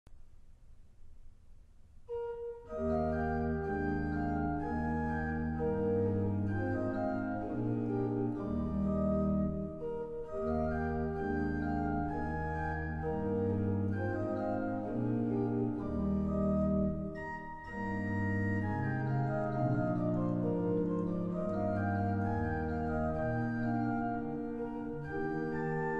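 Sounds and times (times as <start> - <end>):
pipe organ playing chords: 2.2 - 25.9.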